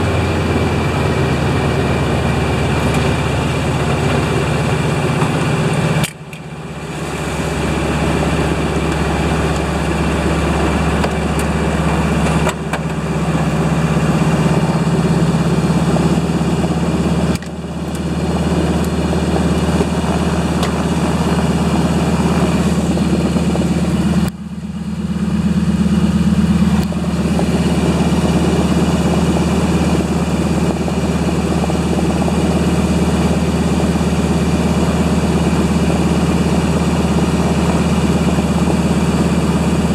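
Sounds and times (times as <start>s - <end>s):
floatplane engine and propeller: 0.0s - 39.9s.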